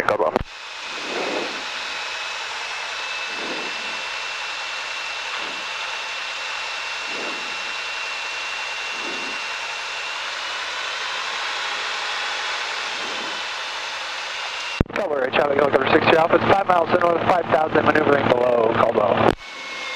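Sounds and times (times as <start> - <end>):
aircraft cabin engine and airflow: 0.0 - 19.9
faint high whine: 0.0 - 19.9.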